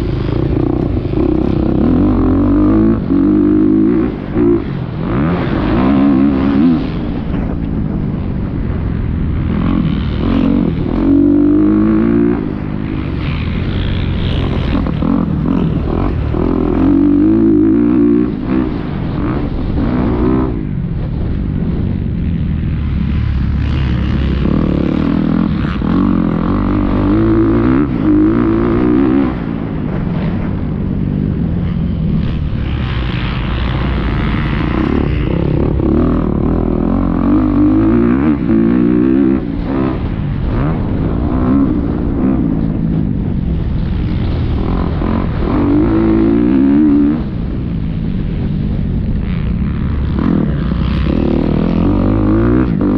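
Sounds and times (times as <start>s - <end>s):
motocross engine revving: 0.0s - 7.6s, 8.5s - 20.7s, 22.8s - 30.6s, 31.6s - 48.4s, 49.3s - 52.9s.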